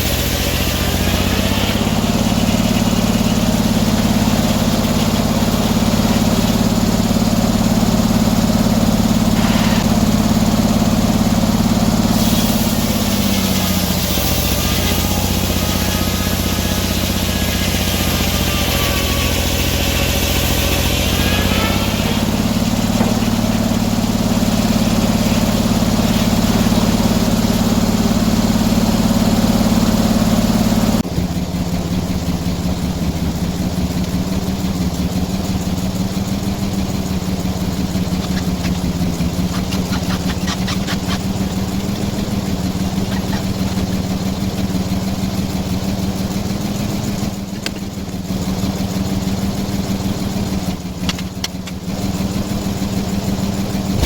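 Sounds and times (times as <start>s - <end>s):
saw cutting a log: 0.0s - 31.1s, 33.6s - 54.0s
sawmill engine running: 0.0s - 54.0s.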